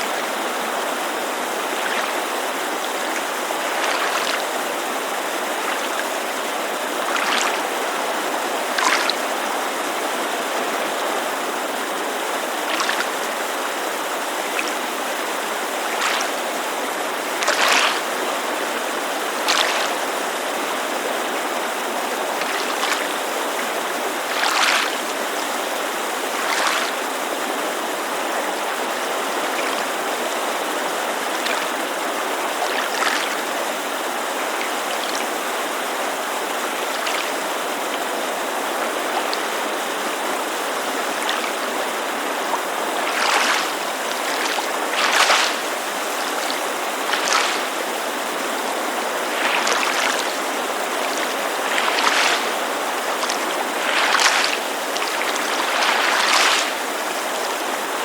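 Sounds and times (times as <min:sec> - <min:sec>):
mountain creek rushing: 0:00.0 - 0:58.0
water lapping against shore: 0:00.0 - 0:58.0.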